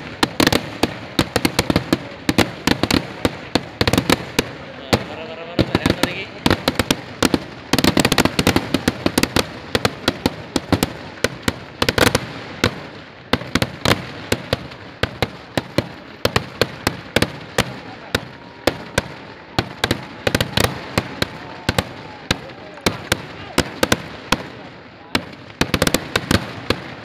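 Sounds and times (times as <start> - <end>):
loud firework bangs: 0.0 - 27.0.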